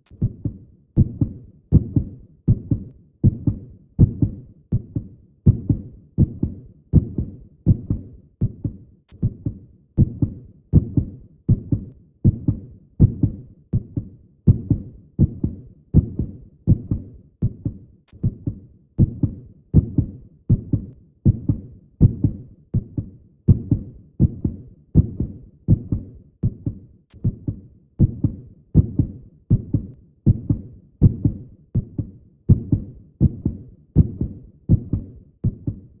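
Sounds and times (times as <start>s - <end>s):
heartbeat thumps: 0.1s - 36.0s.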